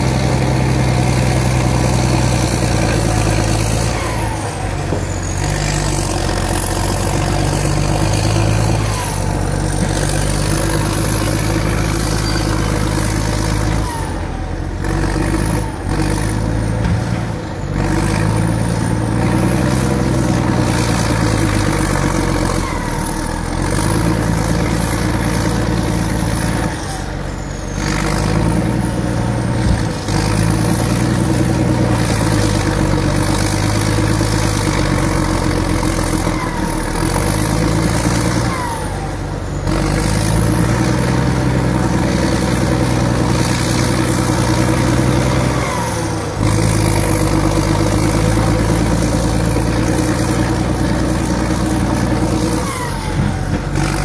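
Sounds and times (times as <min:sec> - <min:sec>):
bulldozer diesel engine under load: 0:00.0 - 0:54.0
excavator working: 0:00.0 - 0:54.0.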